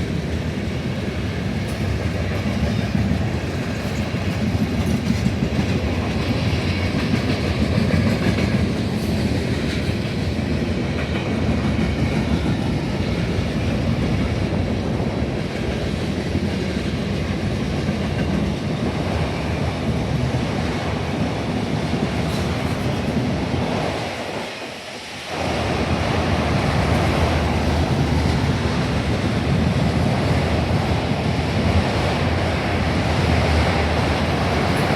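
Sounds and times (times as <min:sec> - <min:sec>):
steel train wheels on rail: 0:00.0 - 0:34.9.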